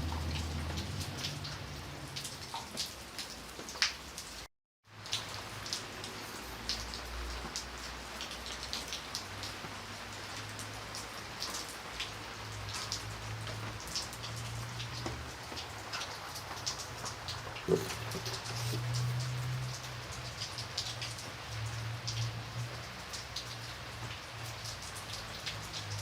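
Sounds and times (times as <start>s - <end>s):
rain drops ticking on hard surface: 0.0s - 26.0s.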